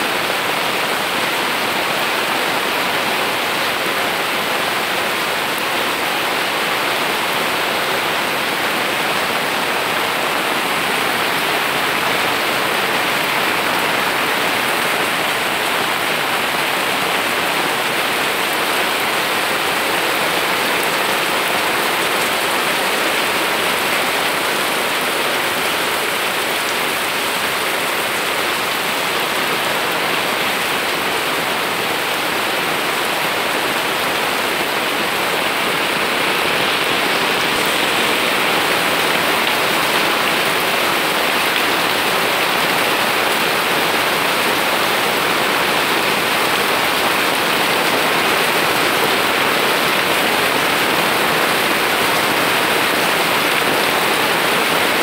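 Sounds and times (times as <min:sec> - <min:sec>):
rain on leaves: 0:00.0 - 0:55.0.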